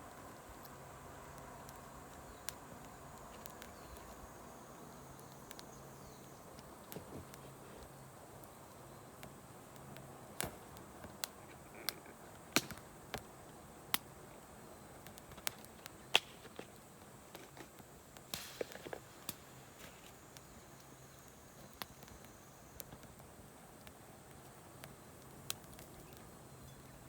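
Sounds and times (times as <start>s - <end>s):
wood campfire crackling: 0.0s - 27.0s.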